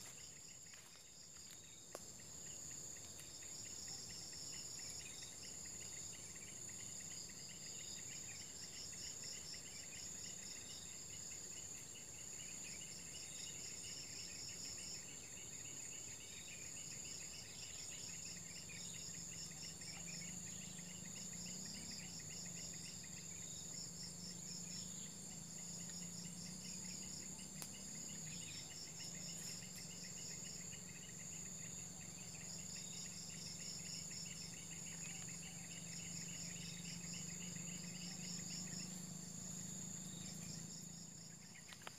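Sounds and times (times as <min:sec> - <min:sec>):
insects chirping: 0:00.0 - 0:41.9
insects whining and trilling: 0:00.0 - 0:41.9.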